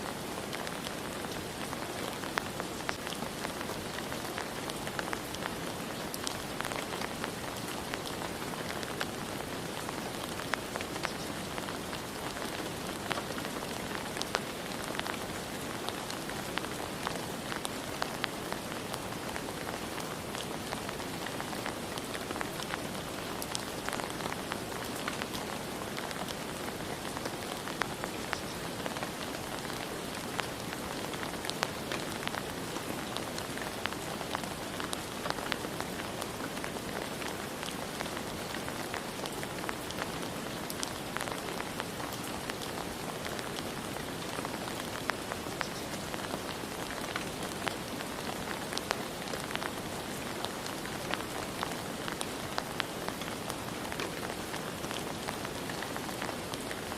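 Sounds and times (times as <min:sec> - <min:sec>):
rain falling: 0:00.0 - 0:56.9
raindrops ticking on a surface: 0:00.0 - 0:56.9.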